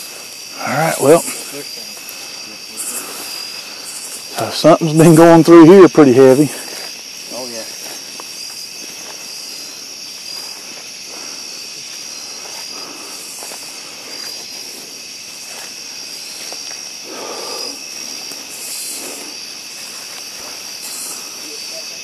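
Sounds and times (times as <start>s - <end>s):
night insects chorus: 0.0s - 22.0s
footsteps rustling through brush: 1.2s - 4.4s, 6.2s - 22.0s.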